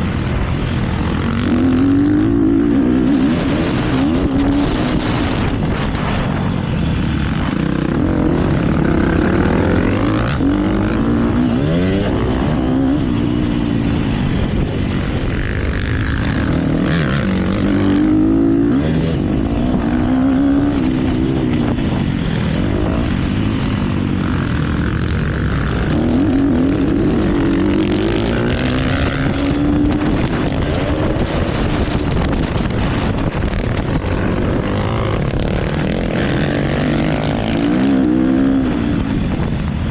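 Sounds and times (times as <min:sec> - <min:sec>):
motocross bike engine revving: 0:00.0 - 0:39.8.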